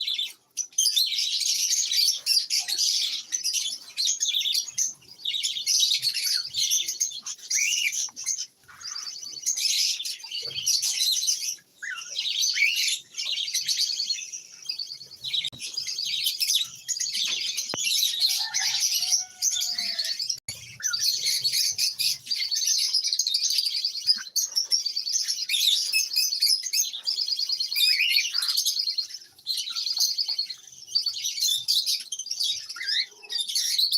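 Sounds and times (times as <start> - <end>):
lovebirds chirping and chattering: 0.0 - 33.9.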